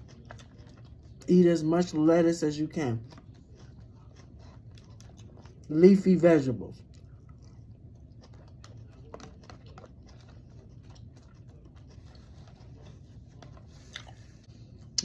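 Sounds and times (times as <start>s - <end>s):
eating noises: 0.0s - 15.0s
low steady hum: 0.0s - 15.0s.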